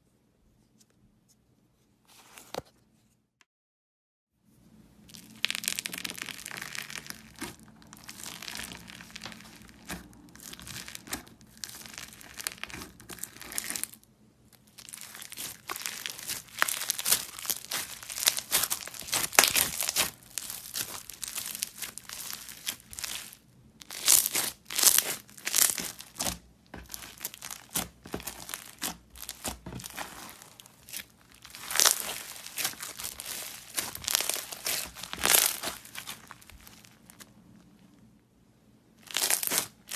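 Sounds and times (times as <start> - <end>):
foam-bead slime crackling: 5.0 - 37.4, 39.0 - 39.9
slime being squeezed by hand: 5.1 - 14.0, 14.7 - 37.2, 39.0 - 39.9.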